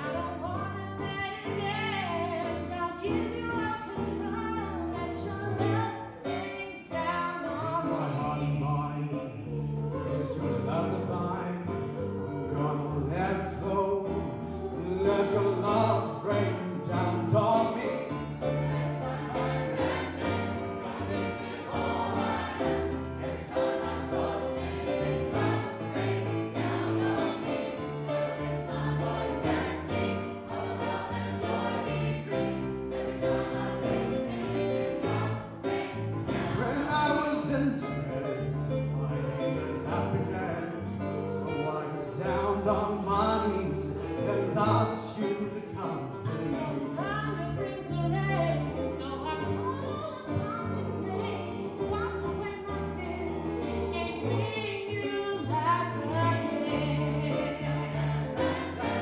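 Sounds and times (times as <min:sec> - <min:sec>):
gospel choir singing: 0:00.0 - 0:59.0.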